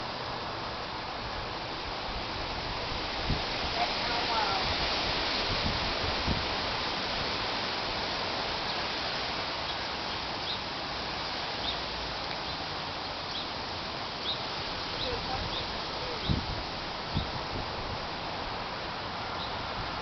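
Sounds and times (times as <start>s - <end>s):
wind through trees: 0.0s - 20.0s.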